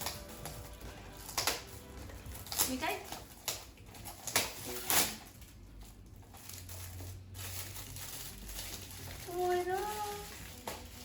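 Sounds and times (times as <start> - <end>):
packaging rustling: 0.0 - 11.0
wrapping paper crackling: 0.0 - 11.0.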